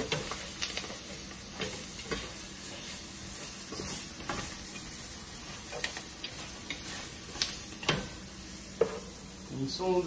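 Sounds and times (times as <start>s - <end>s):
spatula scraping a pan: 0.0s - 9.1s
onions sizzling in a pan: 0.0s - 10.0s.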